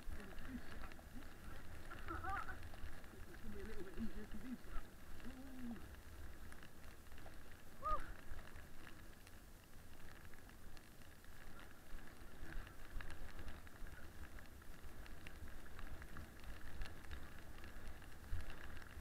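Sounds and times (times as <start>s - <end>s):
toboggan sliding over snow: 0.0s - 19.0s
wind rumble on microphone: 0.0s - 19.0s.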